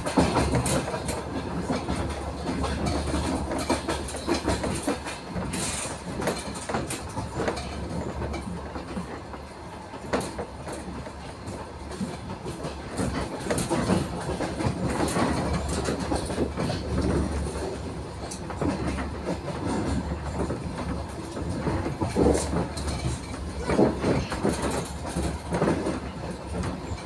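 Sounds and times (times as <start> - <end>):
train wheels rumbling on rails: 0.0 - 27.0
wheels clicking over rail joints: 0.0 - 27.0.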